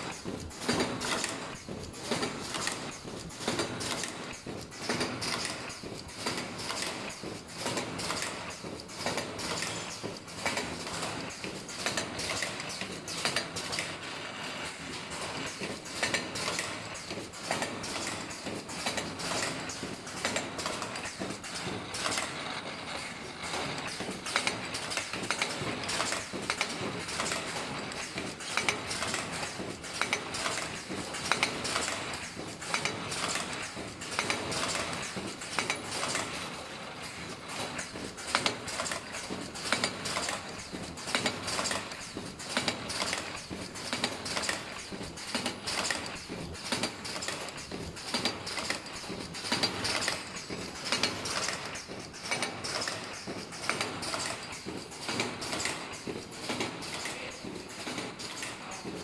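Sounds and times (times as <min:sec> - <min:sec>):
machine clicking and knocking: 0:00.0 - 0:59.0.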